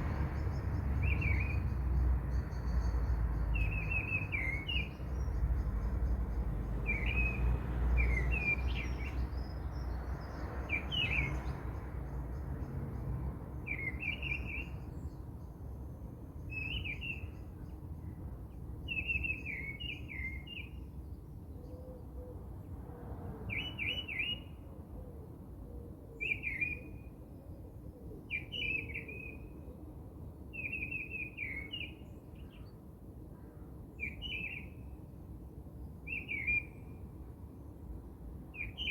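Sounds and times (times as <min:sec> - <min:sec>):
songbird singing: 0:00.0 - 0:22.8, 0:23.4 - 0:38.9.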